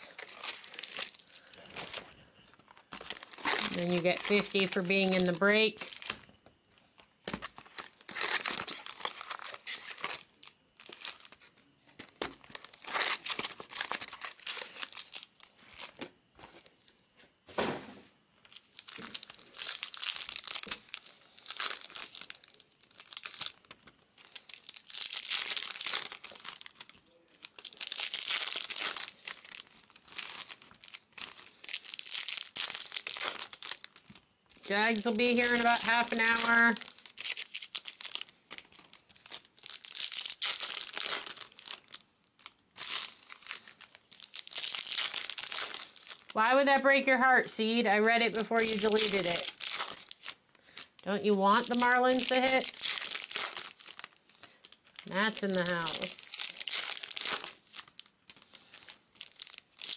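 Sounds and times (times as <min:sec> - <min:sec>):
foil wrappers crinkling and tearing: 0:00.0 - 0:06.3, 0:07.0 - 0:16.8, 0:18.4 - 0:59.9.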